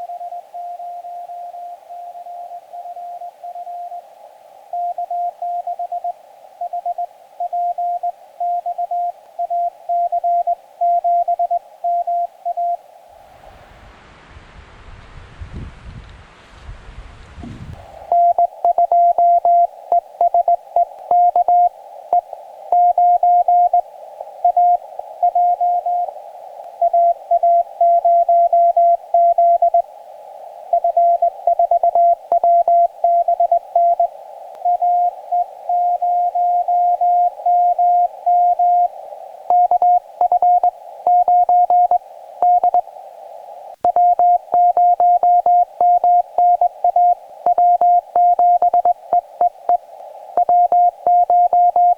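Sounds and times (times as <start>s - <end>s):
morse code tone: 0.0s - 4.0s, 4.7s - 12.8s, 18.1s - 23.8s, 24.4s - 26.1s, 26.8s - 29.9s, 30.7s - 38.9s, 39.5s - 42.9s, 43.8s - 51.9s
receiver hiss: 0.0s - 14.6s, 17.4s - 51.9s.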